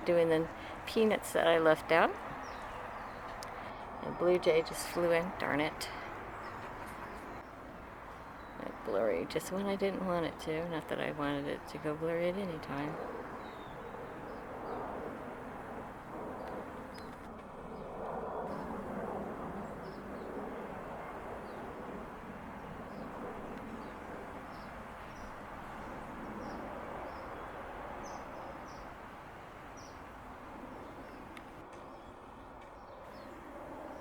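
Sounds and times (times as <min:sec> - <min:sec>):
outdoor background hum: 0:00.0 - 0:34.0.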